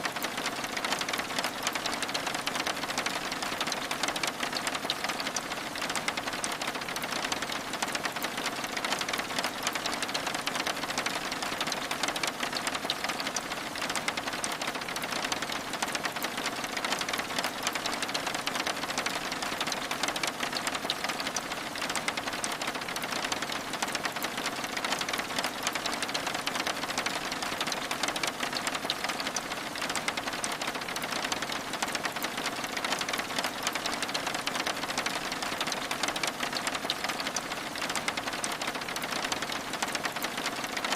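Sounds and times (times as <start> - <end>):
rain on window glass: 0.0 - 40.9.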